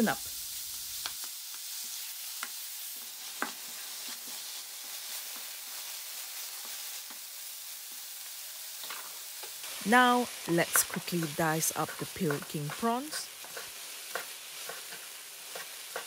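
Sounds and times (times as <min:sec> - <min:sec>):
meat sizzling in a wok: 0:00.0 - 0:16.0.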